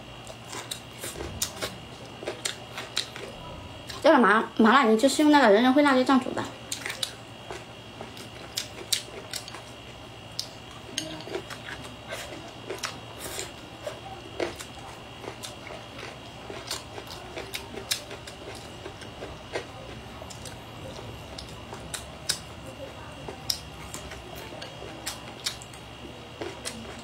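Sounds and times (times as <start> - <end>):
chewing with wet mouth clicks: 0.2 - 4.0, 6.7 - 22.5, 23.2 - 27.0.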